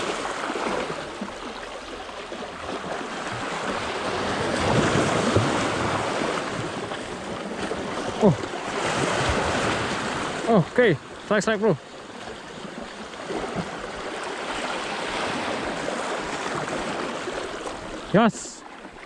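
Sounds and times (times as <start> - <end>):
sea waves splashing over rocks: 0.0 - 19.0.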